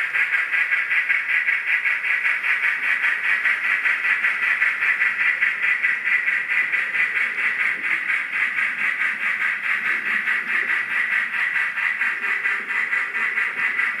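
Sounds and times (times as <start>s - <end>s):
model steam locomotive chuffing: 0.0s - 14.0s.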